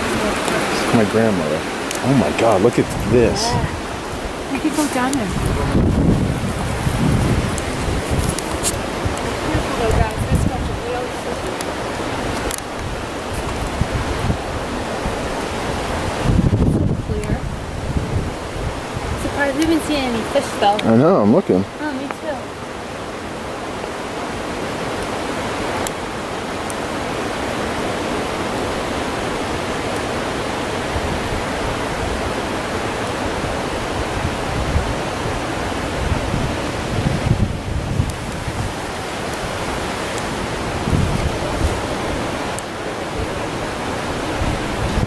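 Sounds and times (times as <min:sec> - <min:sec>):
river water flowing: 0:00.0 - 0:45.0
wind buffeting microphone: 0:00.0 - 0:45.0.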